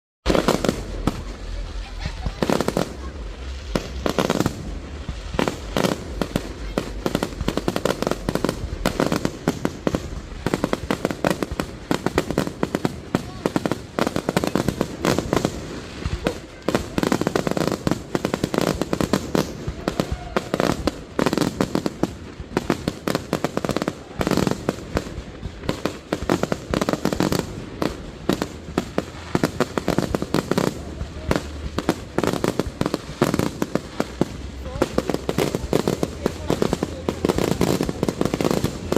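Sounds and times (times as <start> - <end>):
fireworks bangs and crackles: 0.2 - 38.9.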